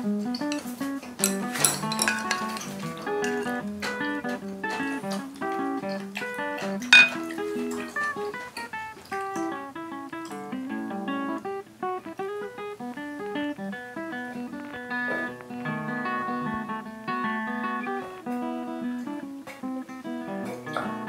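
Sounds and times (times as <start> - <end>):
plucked guitar melody: 0.0 - 21.0.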